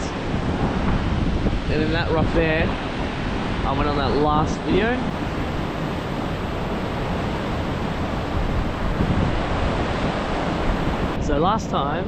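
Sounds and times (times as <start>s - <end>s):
surf washing against rocks: 0.0s - 11.4s
wind on microphone: 0.0s - 12.0s.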